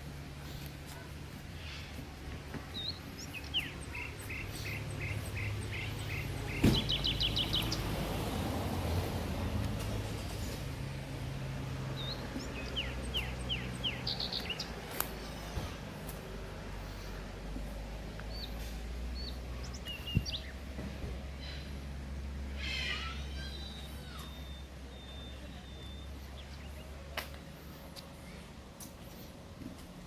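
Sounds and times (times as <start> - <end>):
small birds chirping: 0.1 - 8.2, 11.8 - 29.4.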